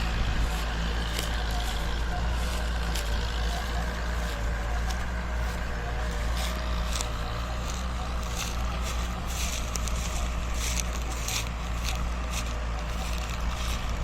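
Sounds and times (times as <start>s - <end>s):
crackles: 0.0s - 14.0s
tractor diesel engine running: 0.0s - 14.0s.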